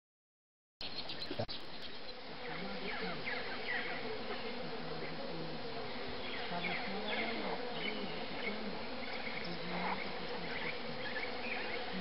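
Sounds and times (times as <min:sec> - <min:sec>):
insects buzzing: 0:00.8 - 0:12.0.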